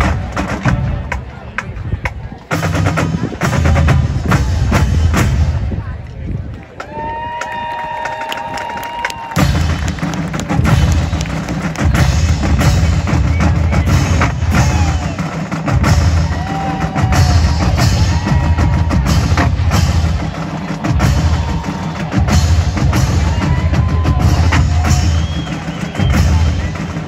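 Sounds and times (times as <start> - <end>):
drumline playing cadence: 0.0 - 6.1, 6.7 - 27.0.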